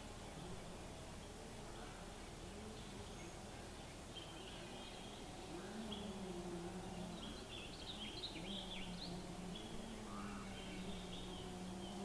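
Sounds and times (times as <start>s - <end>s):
low steady hum: 0.0s - 12.0s
small birds chirping: 0.0s - 12.0s.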